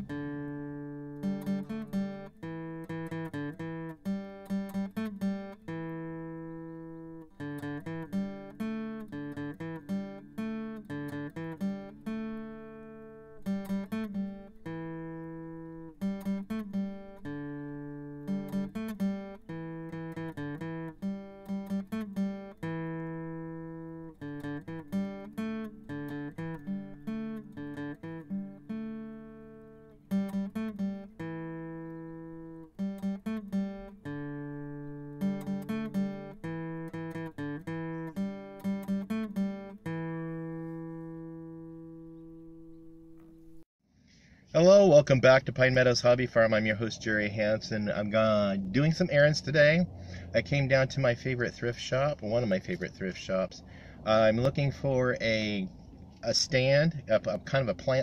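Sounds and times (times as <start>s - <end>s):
acoustic guitar picking: 0.0s - 43.6s, 44.6s - 58.0s.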